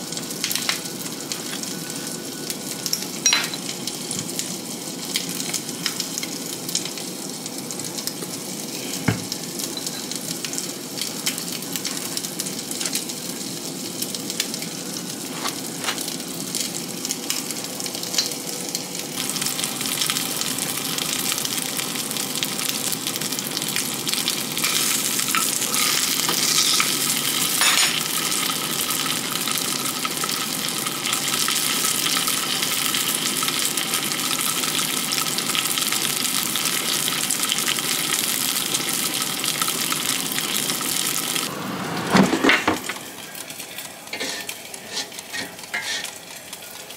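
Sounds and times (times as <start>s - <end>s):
food sizzling in a pan: 0.0s - 46.9s.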